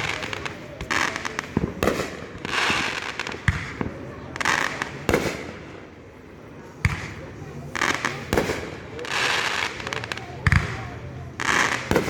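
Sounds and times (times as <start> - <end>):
fireworks bangs: 0.0 - 6.2, 6.8 - 12.0
fireworks crackling: 0.0 - 12.0.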